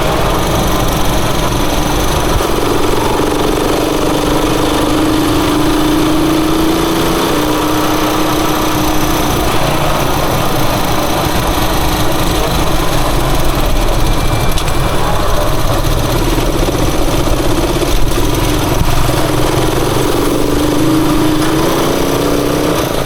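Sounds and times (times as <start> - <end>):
motorcycle engine running: 0.0 - 23.0
road and wind noise: 0.0 - 23.0.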